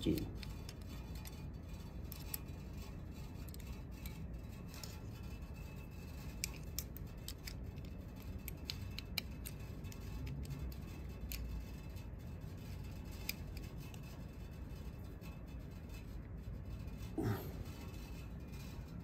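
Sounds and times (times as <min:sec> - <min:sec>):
low steady hum: 0:00.0 - 0:19.0
small metallic clicks and ticks: 0:00.0 - 0:19.0.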